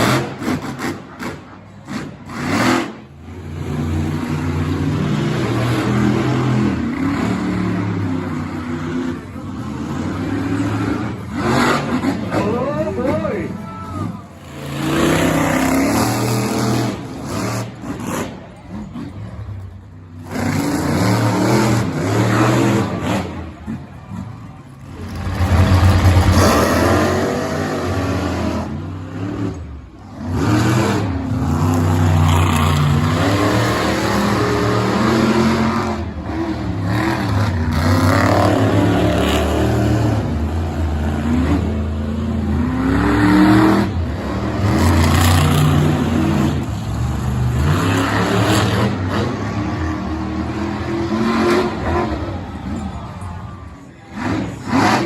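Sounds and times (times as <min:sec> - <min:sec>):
monster truck engines revving: 0:00.0 - 0:55.0.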